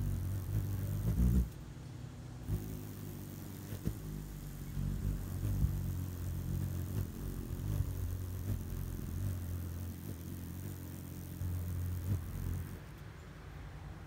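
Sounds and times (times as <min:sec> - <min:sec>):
hummingbird wings humming: 0:00.0 - 0:13.0.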